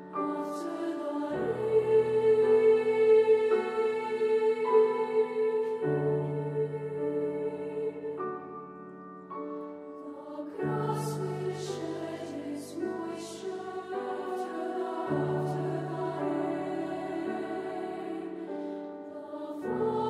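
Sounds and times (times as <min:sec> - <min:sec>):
women's choir singing: 0:00.0 - 0:08.7, 0:09.8 - 0:20.0
piano chords: 0:00.0 - 0:20.0.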